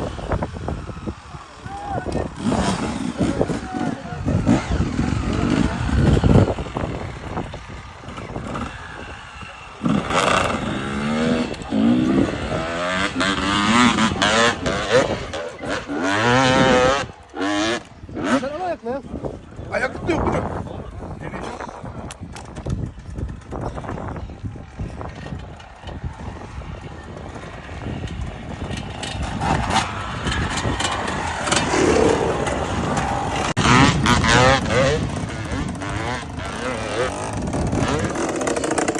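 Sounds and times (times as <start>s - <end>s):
off-road motorcycle engine revving: 0.0s - 20.5s, 25.0s - 38.9s.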